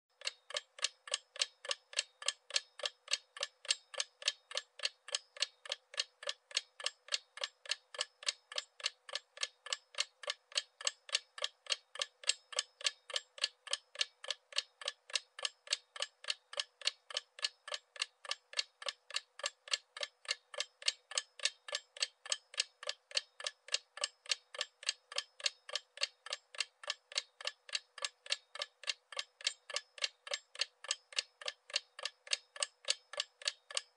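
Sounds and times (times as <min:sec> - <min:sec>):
clock ticking: 0:00.1 - 0:33.9.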